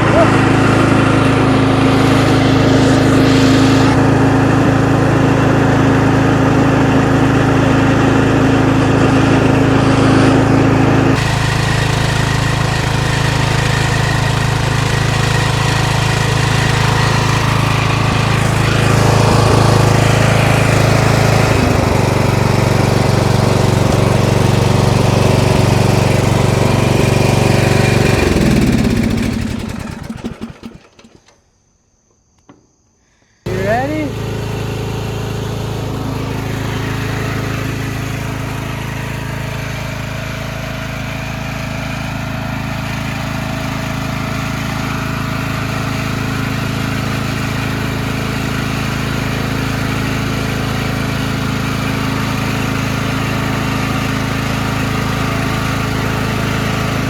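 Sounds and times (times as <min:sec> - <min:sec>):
lawn tractor engine running: 0:00.0 - 0:31.4, 0:33.5 - 0:57.0.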